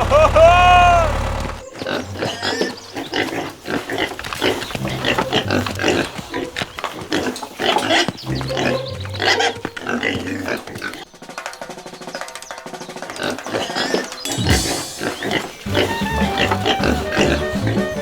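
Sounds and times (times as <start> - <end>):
pigs grunting and squealing: 0.0 - 11.1, 13.1 - 18.0.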